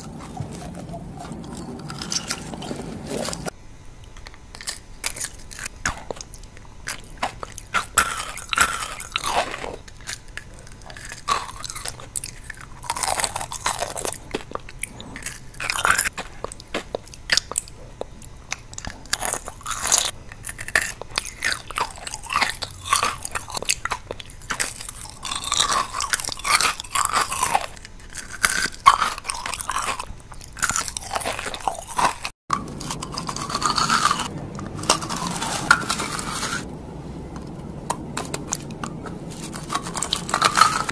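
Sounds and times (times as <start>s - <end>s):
crunching hard candy: 0.0s - 36.7s, 37.9s - 40.9s
soft chewing: 0.0s - 36.7s, 37.3s - 40.9s.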